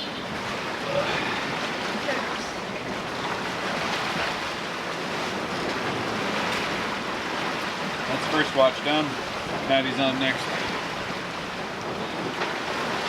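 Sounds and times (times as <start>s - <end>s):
sea water rushing: 0.0s - 13.0s
wind: 0.0s - 13.0s.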